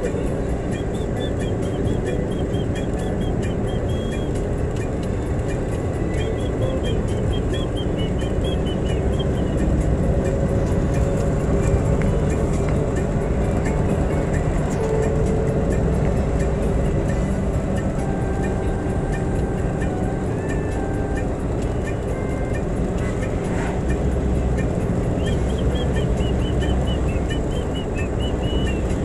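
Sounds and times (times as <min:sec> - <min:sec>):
vehicle road and engine rumble: 0:00.0 - 0:29.0.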